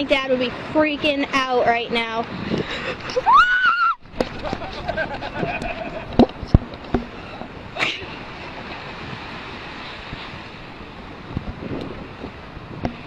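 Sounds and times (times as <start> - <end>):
surf washing on beach: 0.0 - 13.0
wind on microphone: 0.0 - 13.0.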